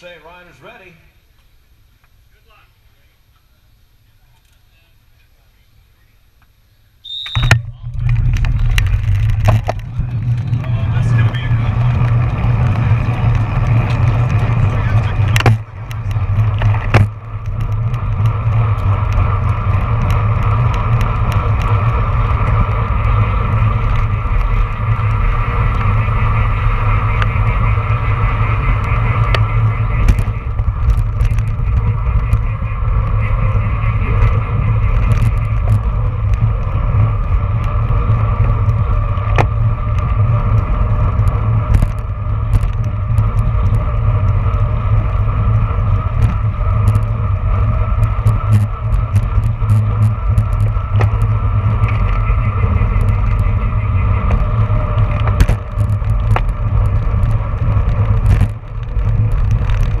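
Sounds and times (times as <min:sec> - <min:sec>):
tyre and road hum: 0:00.0 - 1:00.0
wind rushing over microphone: 0:07.1 - 1:00.0.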